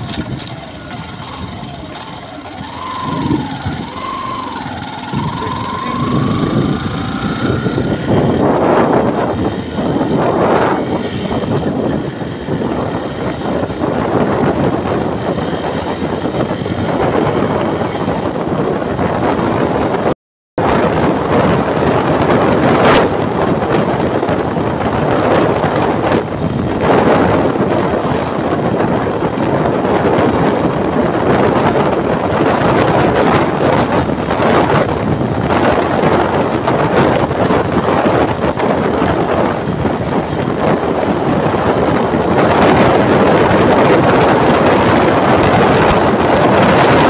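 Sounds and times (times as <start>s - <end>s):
motorcycle engine: 0.0s - 47.0s
wind rushing over microphone: 0.0s - 47.0s.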